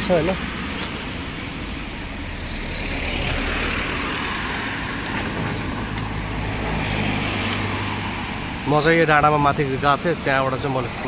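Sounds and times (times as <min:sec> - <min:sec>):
tyre and road noise: 0:00.0 - 0:11.0
vehicle engine rumble: 0:00.0 - 0:11.0.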